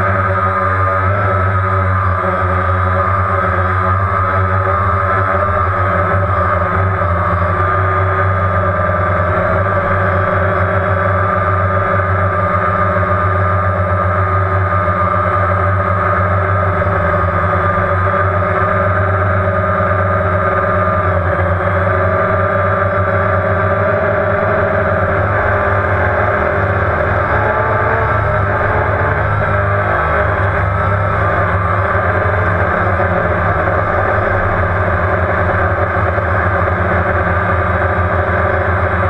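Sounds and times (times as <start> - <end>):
drone propellers buzzing: 0.0 - 39.0.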